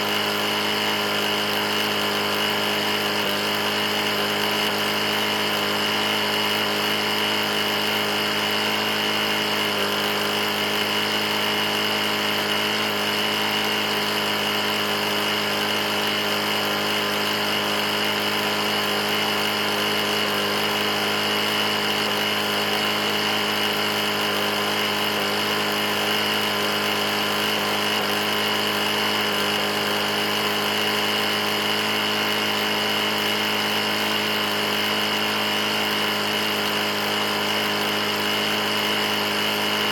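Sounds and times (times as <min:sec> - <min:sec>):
engine knocking: 0:00.0 - 0:39.9
lawn mower engine running: 0:00.0 - 0:39.9.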